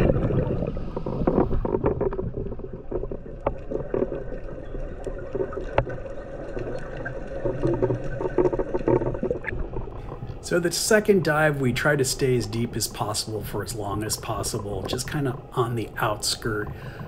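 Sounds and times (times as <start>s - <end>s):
muffled underwater rumble: 0.0s - 17.0s.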